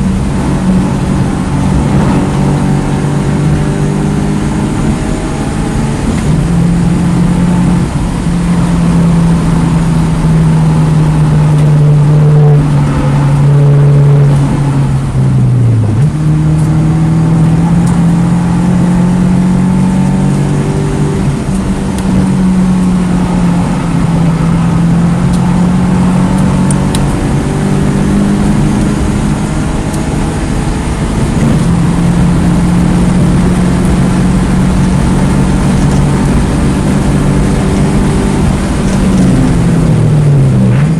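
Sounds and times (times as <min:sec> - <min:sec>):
car engine running hard: 0:00.0 - 0:40.9.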